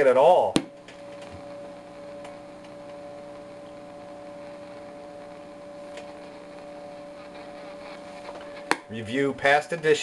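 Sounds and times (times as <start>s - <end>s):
radio receiver hum: 0.0s - 10.0s.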